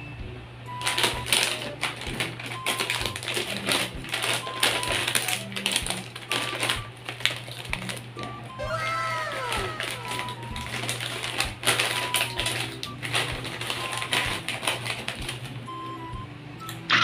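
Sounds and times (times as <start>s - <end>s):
plastic snack bag crinkling: 0.8s - 15.7s.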